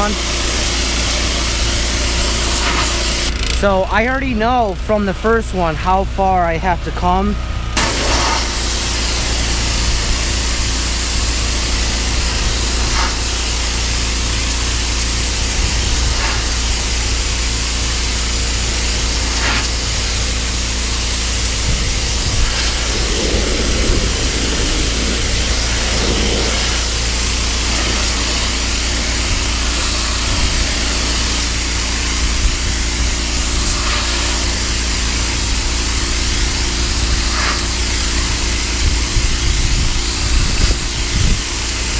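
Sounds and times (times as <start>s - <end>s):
pressure washer spraying wood: 0.0s - 5.4s, 7.8s - 41.9s
pressure washer motor hum: 0.0s - 41.9s.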